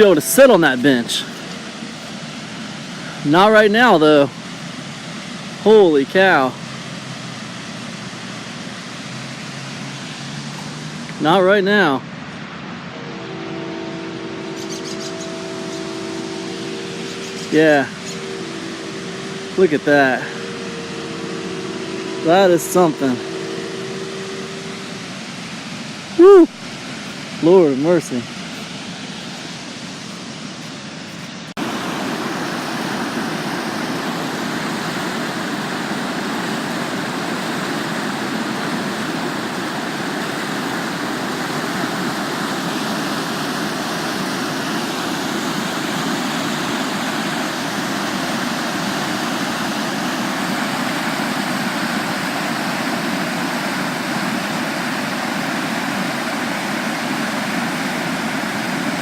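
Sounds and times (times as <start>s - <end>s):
floodwater rushing in river: 0.0s - 59.0s.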